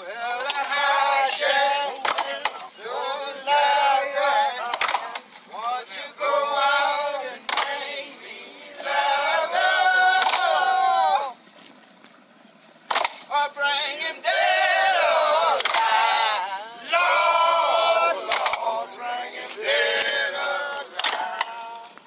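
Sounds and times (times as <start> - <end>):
men singing unaccompanied: 0.0 - 11.4, 13.2 - 22.0.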